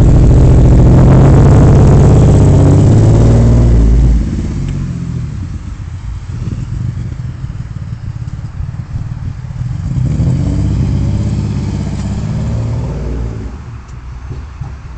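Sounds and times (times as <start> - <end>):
engine misfiring and revving: 0.0 - 14.9.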